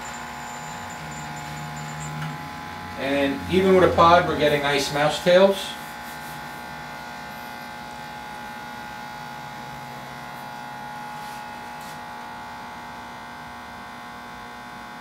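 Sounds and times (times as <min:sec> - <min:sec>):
espresso machine pump buzzing: 0:00.0 - 0:15.0.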